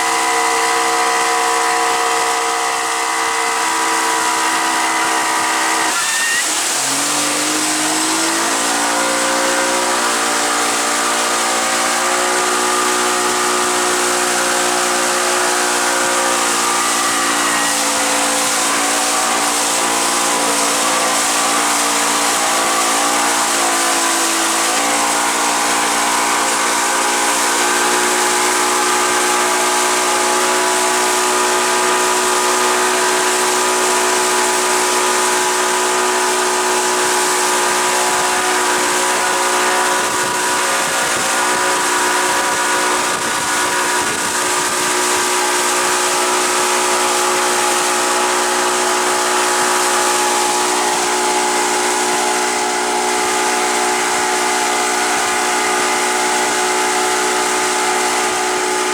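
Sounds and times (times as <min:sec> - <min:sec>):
motorboat engine running: 0:00.0 - 0:58.9
wind: 0:00.0 - 0:58.9.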